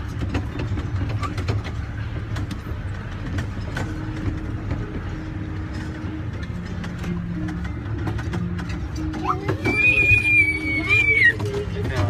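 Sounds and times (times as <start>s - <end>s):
ride train rumbling: 0.0s - 12.0s.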